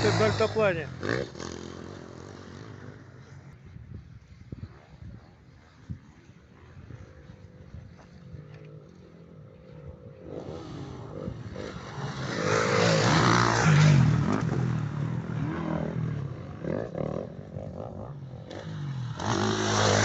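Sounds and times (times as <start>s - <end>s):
motocross bike engine revving: 0.0s - 3.5s, 6.5s - 20.0s.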